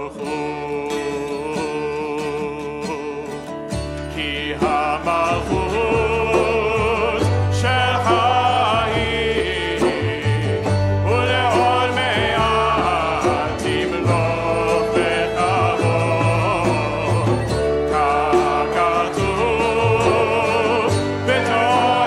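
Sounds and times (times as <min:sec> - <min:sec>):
man singing lead: 0:00.0 - 0:22.0
strummed acoustic guitar: 0:00.0 - 0:22.0
upright bass notes: 0:00.0 - 0:22.0
group of voices singing: 0:04.0 - 0:22.0.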